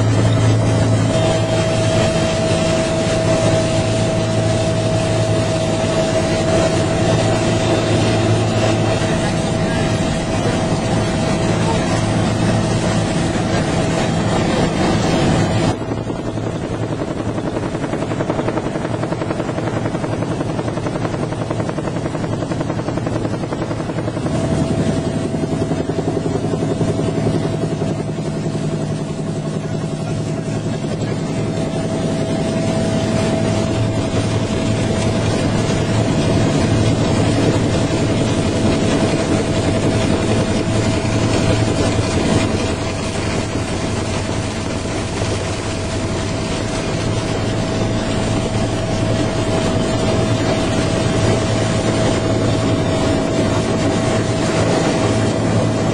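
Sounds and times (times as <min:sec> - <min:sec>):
helicopter engine and rotor: 0:00.0 - 0:55.9
high turbine whine: 0:00.0 - 0:55.9.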